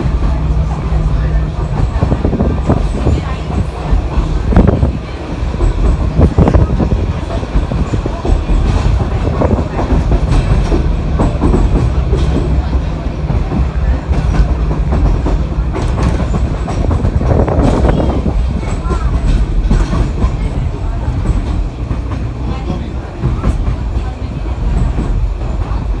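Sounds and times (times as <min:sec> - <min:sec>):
low train rumble: 0:00.0 - 0:26.0
train wheels clattering over rail joints: 0:00.0 - 0:26.0.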